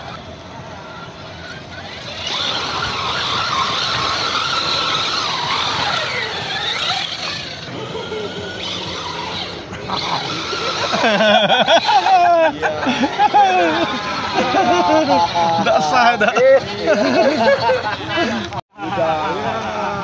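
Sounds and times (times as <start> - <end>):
toy car motor whining: 0.0 - 18.6.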